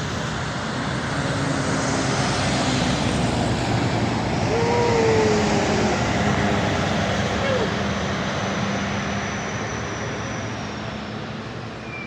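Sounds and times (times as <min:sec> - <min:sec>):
road noise: 0:00.0 - 0:09.7.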